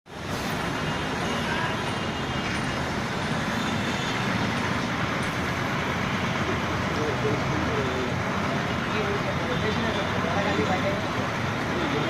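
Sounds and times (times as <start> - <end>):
heavy diesel machinery running: 0.1 - 12.0.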